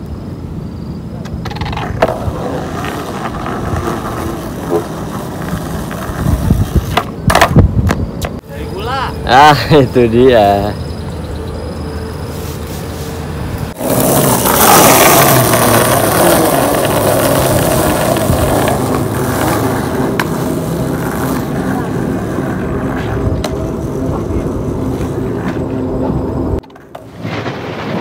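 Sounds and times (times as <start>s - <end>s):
skateboard wheels rolling on concrete: 0.0s - 28.0s.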